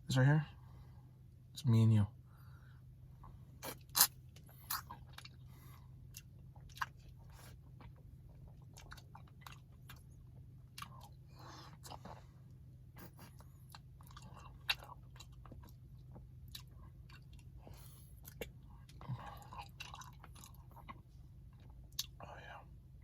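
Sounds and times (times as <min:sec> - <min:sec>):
chewing and crunching ice cream: 0:03.2 - 0:22.6.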